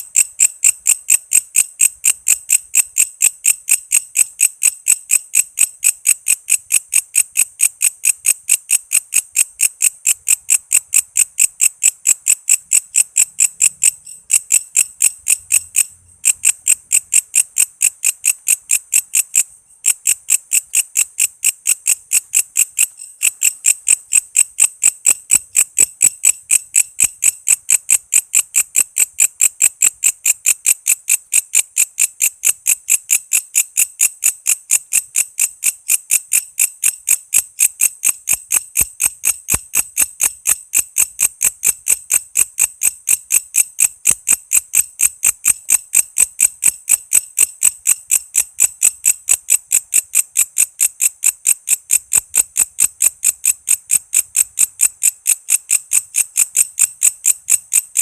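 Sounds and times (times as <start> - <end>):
katydid chirping: 0.0 - 33.6, 34.2 - 58.0.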